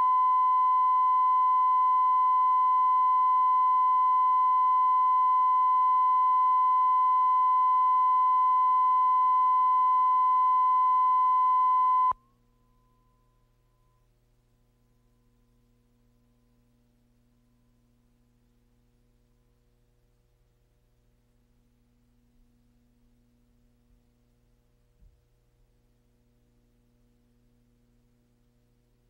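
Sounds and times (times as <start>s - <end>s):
faint hum: 0.0s - 24.9s.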